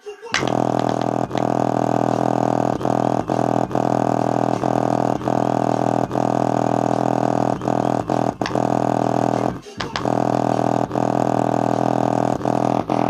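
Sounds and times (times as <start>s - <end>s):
buzzing low bass tone: 0.4s - 13.0s.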